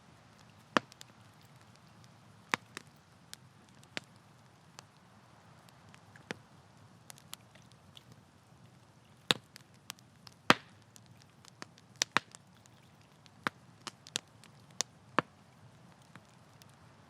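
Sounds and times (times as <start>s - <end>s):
campfire crackling and popping: 0.0s - 17.0s
faint low background noise: 0.0s - 17.0s.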